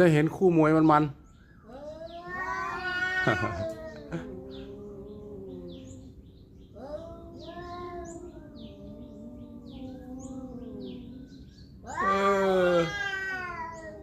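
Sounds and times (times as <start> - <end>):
small birds chirping: 0.0 - 14.0
cats yowling: 1.6 - 14.0.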